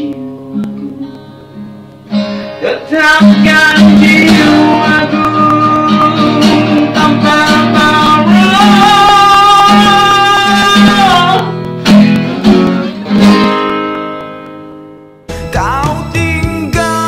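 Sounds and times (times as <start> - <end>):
acoustic guitar ballad: 0.0 - 17.0
guitar chords ringing out: 0.0 - 17.0.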